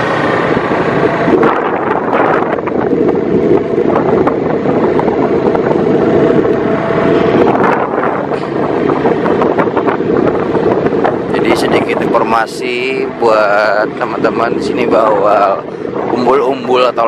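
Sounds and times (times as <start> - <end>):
vehicle engine and tyre noise: 0.0 - 17.0
wind on microphone: 0.0 - 17.0.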